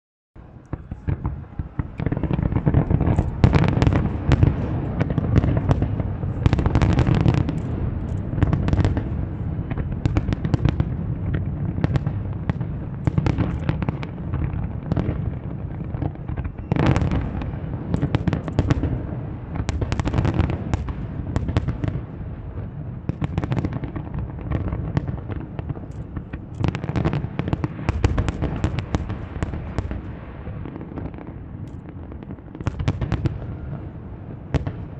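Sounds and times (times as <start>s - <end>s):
fireworks cracks: 0.4s - 22.1s, 23.1s - 34.9s
fireworks low booms: 0.4s - 34.9s.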